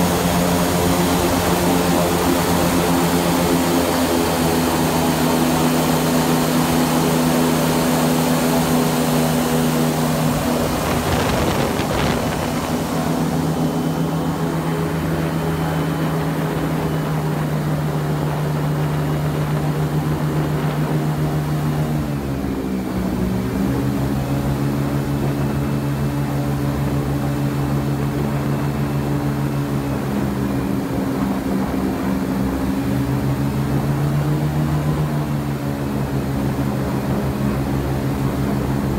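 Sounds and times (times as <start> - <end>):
airboat engine and propeller: 0.0 - 38.9.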